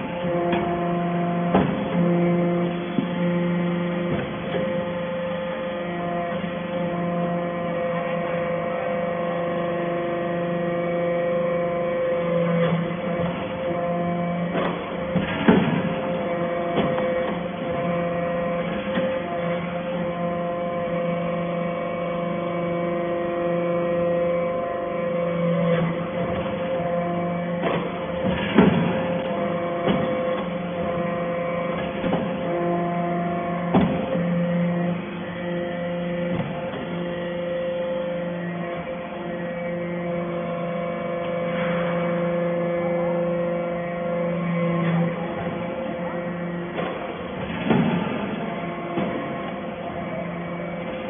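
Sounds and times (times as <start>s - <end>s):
motor and hydraulic pump hum: 0.0s - 51.0s.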